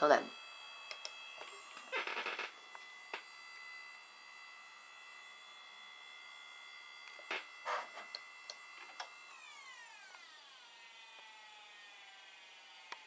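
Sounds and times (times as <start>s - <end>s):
hard drive whining: 0.0s - 13.0s.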